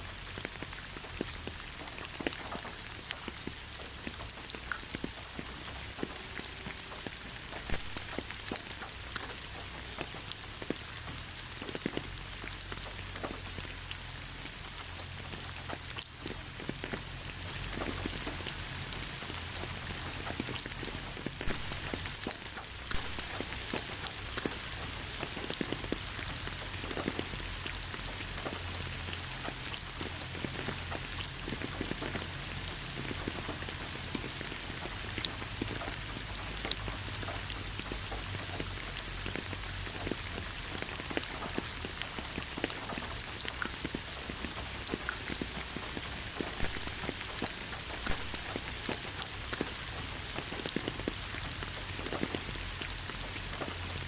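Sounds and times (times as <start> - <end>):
raindrops pattering: 0.0 - 54.0.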